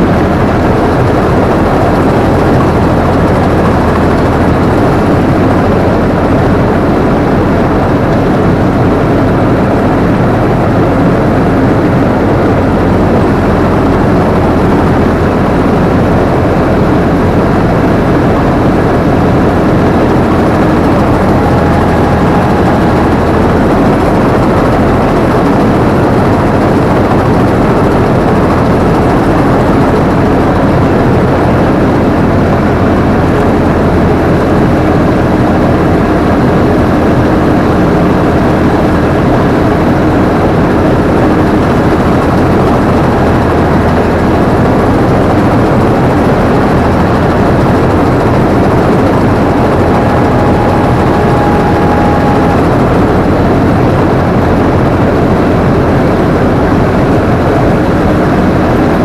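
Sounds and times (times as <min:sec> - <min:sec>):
combine harvester engine running: 0:00.0 - 0:59.0.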